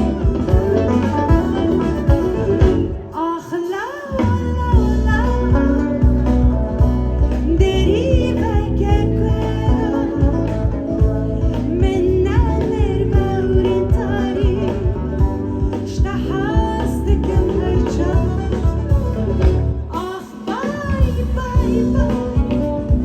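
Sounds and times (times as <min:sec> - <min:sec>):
live folk band music: 0:00.0 - 0:23.0.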